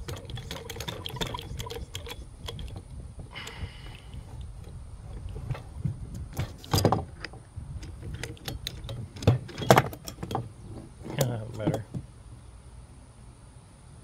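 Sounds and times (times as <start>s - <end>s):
metallic clicks and knocks: 0.0s - 12.1s
low steady hum: 0.0s - 14.0s.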